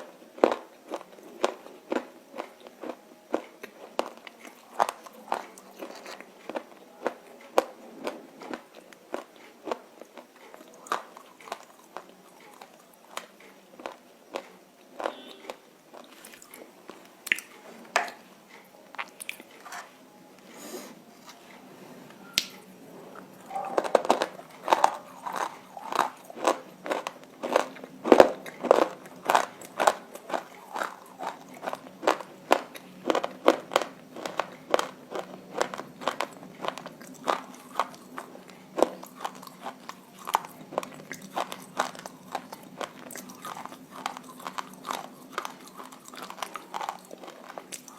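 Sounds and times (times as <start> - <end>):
crunching and chewing: 0.0 - 20.0, 23.0 - 47.9.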